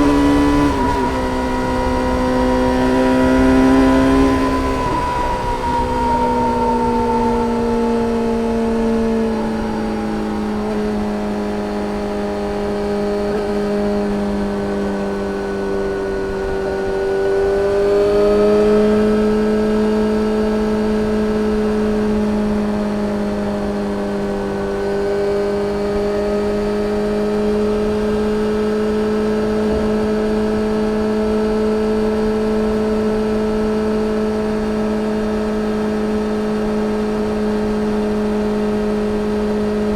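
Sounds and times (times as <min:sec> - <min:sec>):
motorcycle engine cruising: 0:00.0 - 0:39.9
wind and road rumble: 0:00.0 - 0:39.9.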